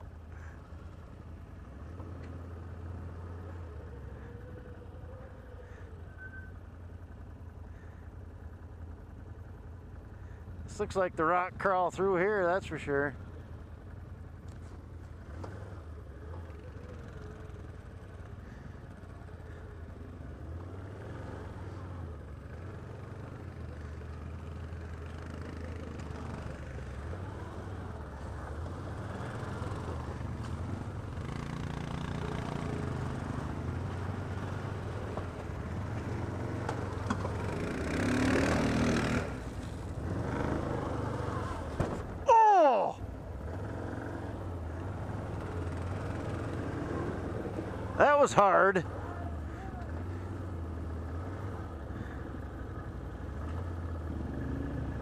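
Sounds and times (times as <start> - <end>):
atv engine humming: 0.0 - 55.0.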